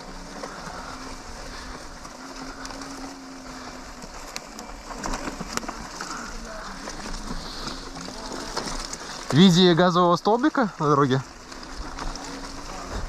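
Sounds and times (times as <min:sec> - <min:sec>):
wheel rolling over rough ground: 0:00.0 - 0:13.0.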